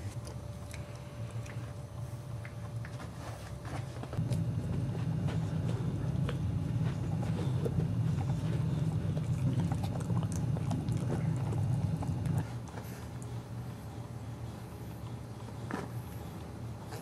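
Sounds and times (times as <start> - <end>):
dog gnawing a chew stick: 0.0 - 17.0
low hum: 0.0 - 17.0.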